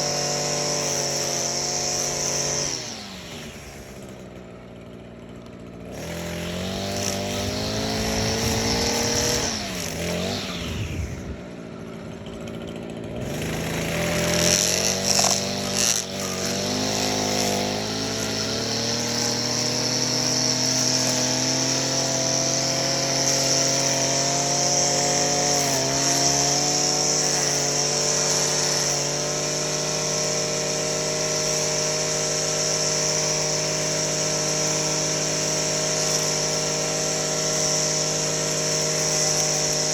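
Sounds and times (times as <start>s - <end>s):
string trimmer engine running: 0.0s - 39.9s.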